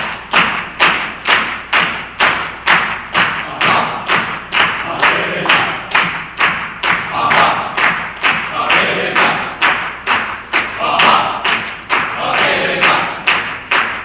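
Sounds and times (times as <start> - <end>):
hands clapping in unison: 0.0 - 14.0.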